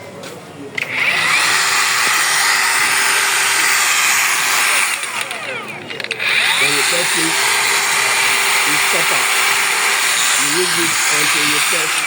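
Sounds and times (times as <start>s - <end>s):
angle grinder whirring: 0.8s - 12.0s.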